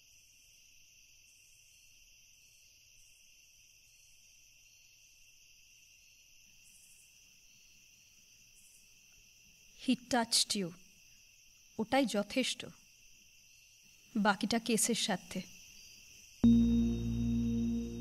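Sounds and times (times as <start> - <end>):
faint cricket chorus: 0.0 - 18.0.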